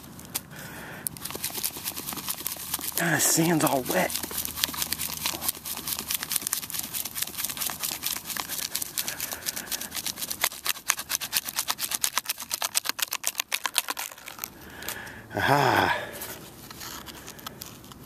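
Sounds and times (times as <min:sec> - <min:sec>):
digging in wet sand clicks and scrapes: 0:00.0 - 0:15.0.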